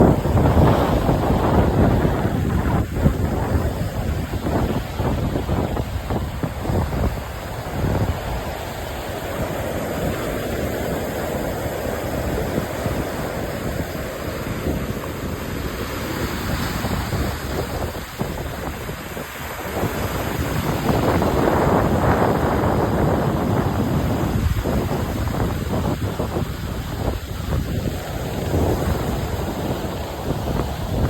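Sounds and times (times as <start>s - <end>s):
waves breaking on beach: 0.0s - 31.0s
wind buffeting microphone: 0.0s - 31.0s.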